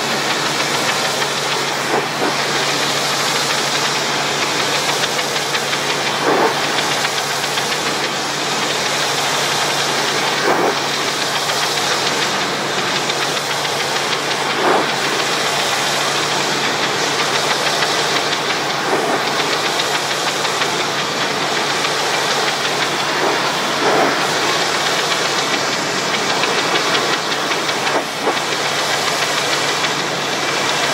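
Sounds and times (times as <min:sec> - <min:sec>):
engine hum: 0:00.0 - 0:30.9
pressure washer water spray hiss: 0:00.0 - 0:30.9.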